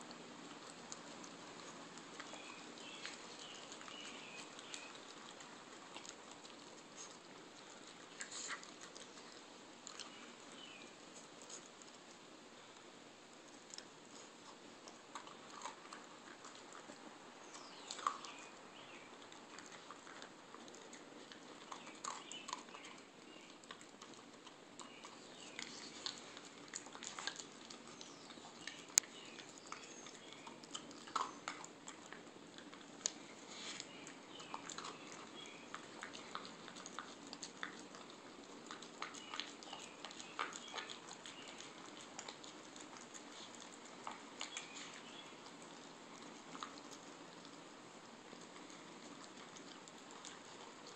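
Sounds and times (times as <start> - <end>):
dog chewing dry kibble: 0.0 - 50.9.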